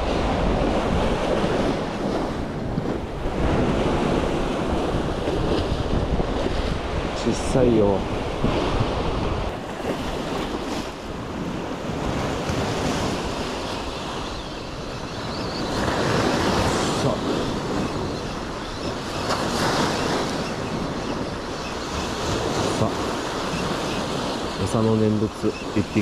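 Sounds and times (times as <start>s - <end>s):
sea waves washing: 0.0s - 26.0s
wind buffeting microphone: 0.0s - 26.0s.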